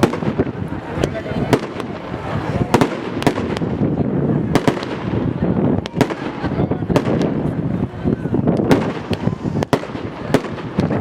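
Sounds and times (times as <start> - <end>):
crowd voices: 0.0 - 11.0
wind: 0.0 - 11.0.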